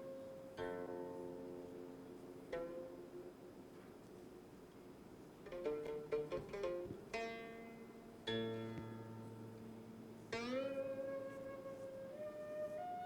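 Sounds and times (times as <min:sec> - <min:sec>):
plucked zither music: 0:00.0 - 0:03.4, 0:05.4 - 0:13.0.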